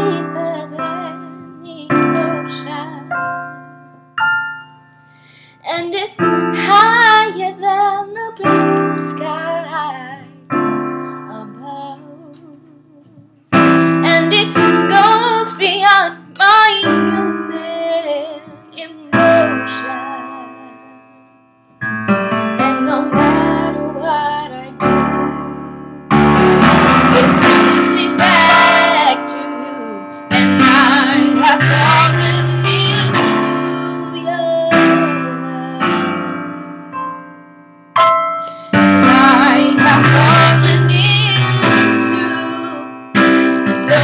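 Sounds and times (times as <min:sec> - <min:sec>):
woman singing: 0:00.0 - 0:03.3, 0:05.6 - 0:21.0, 0:22.6 - 0:26.0, 0:27.2 - 0:36.7, 0:38.7 - 0:43.0, 0:43.6 - 0:44.0
piano chords: 0:00.0 - 0:44.0.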